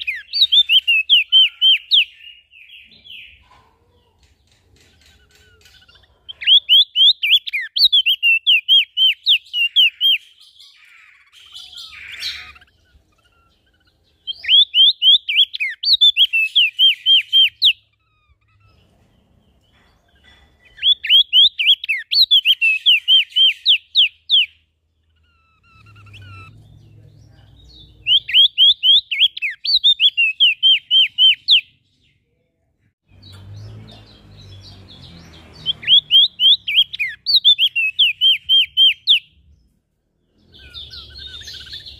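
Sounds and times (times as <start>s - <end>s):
rough bird call: 0.0s - 27.0s, 33.2s - 39.4s, 40.3s - 41.9s.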